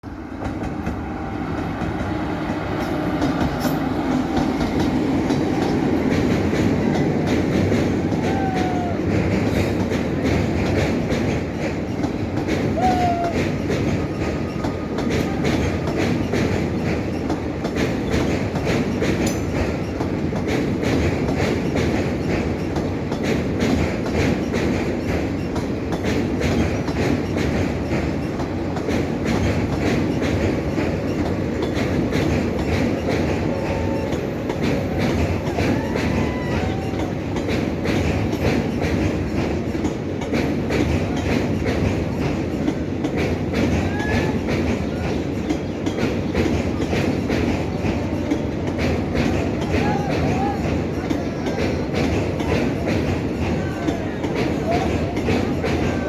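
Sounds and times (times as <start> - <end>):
train rolling rumble: 0.0 - 56.0
wheels clattering over rails: 0.2 - 56.0
train wheel squeals: 0.3 - 56.0.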